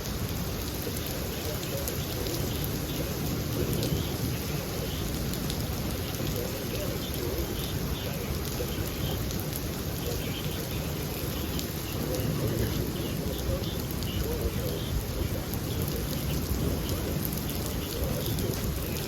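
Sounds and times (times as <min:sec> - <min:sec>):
heavy rain: 0:00.0 - 0:19.0
low thunder rumble: 0:00.0 - 0:19.0
raindrops ticking: 0:00.0 - 0:19.0.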